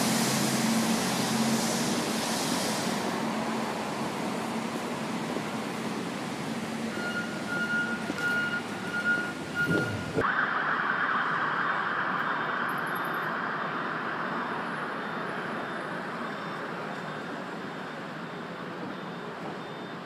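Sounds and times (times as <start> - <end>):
distant traffic noise: 0.0 - 20.0.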